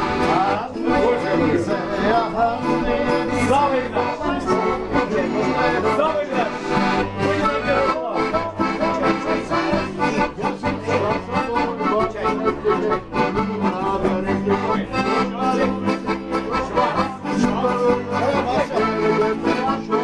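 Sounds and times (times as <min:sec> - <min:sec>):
accordion music with steady beat: 0:00.0 - 0:20.0.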